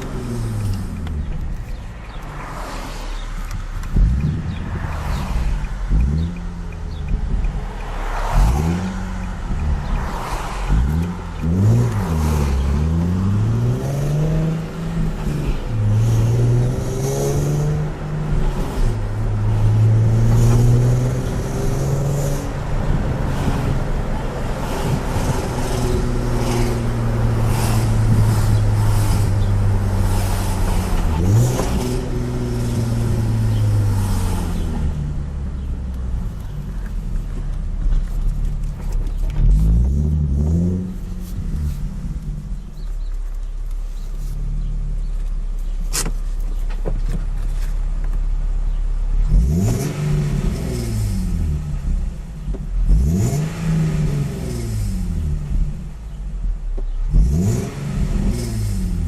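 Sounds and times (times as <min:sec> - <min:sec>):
car engine and exhaust revving: 0:00.0 - 0:59.0.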